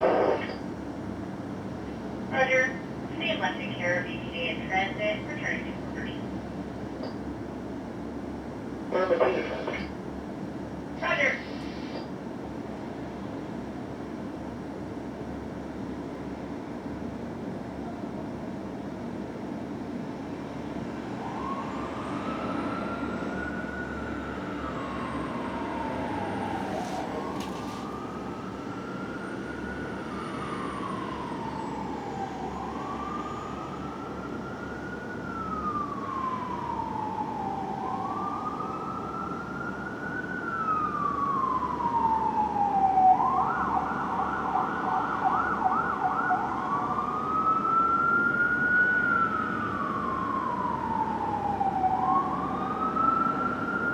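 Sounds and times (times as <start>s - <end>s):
fire engine siren: 0.0s - 1.2s, 2.3s - 6.9s, 13.5s - 53.9s.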